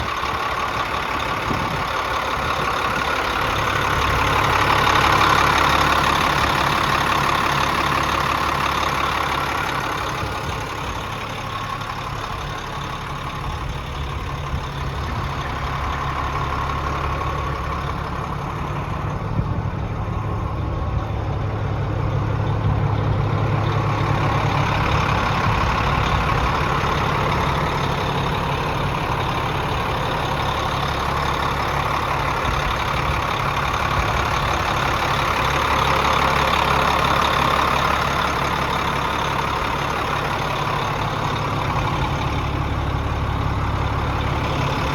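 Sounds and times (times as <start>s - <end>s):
diesel truck engine idling: 0.0s - 44.9s.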